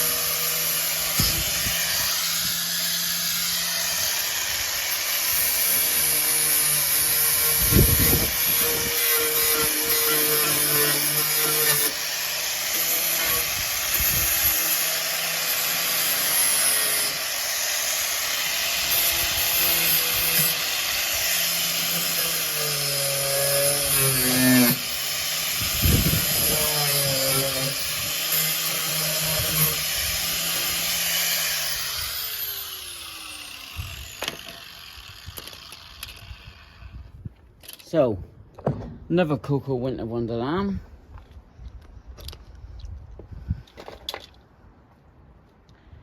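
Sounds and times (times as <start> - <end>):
power grinder on metal: 0.0 - 36.9.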